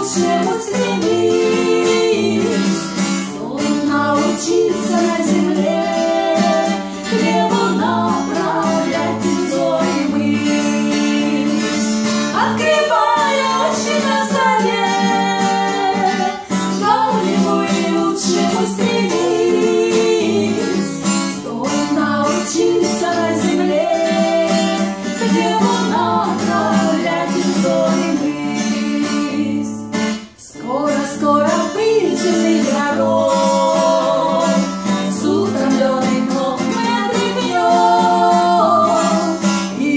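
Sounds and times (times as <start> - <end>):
strummed acoustic guitar: 0.0 - 39.9
woman singing slow song: 0.0 - 39.9.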